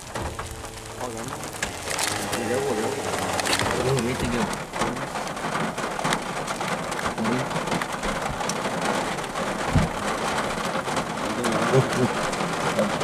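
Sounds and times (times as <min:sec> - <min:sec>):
rain on a vehicle roof: 0:00.0 - 0:13.0.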